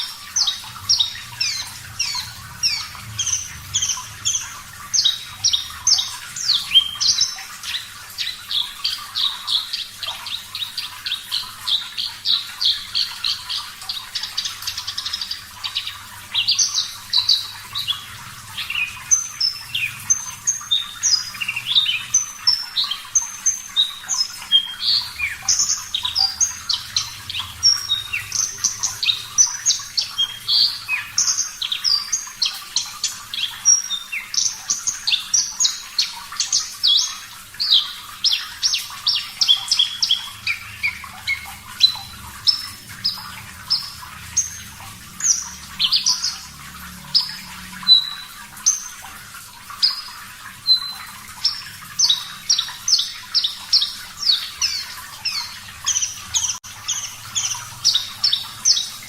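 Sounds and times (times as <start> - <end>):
lark singing rapid trills: 0.0 - 48.9
faint running water hiss: 0.0 - 59.0.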